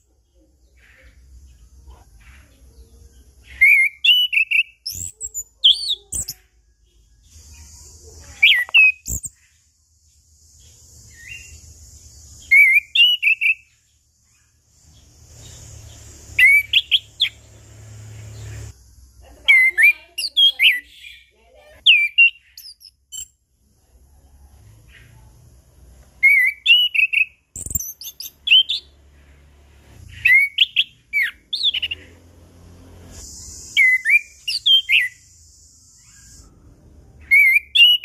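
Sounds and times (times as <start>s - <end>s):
thrush singing whistled notes: 3.4s - 18.8s, 19.4s - 23.4s, 26.2s - 38.0s.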